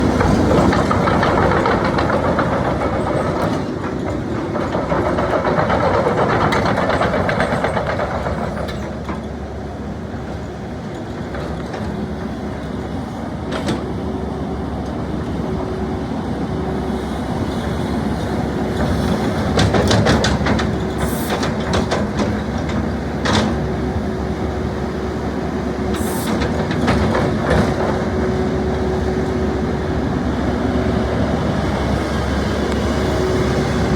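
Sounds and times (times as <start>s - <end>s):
excavator engine rumbling: 0.0s - 33.9s.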